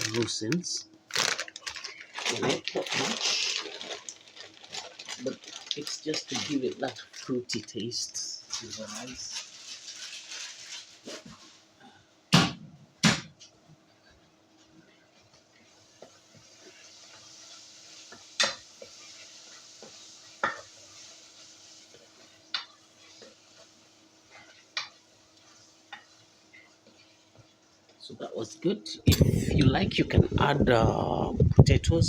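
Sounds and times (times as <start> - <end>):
faint sizzle: 0.0 - 12.3, 13.9 - 31.3.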